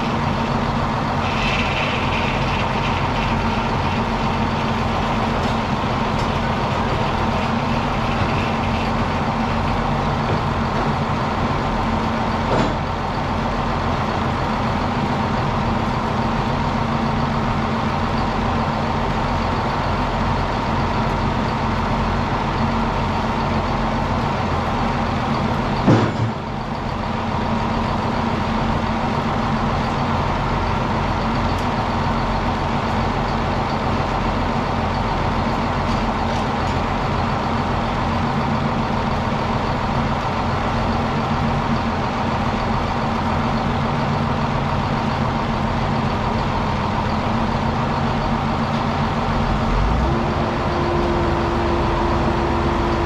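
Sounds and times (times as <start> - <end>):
circular sawmill humming: 0.0 - 53.0.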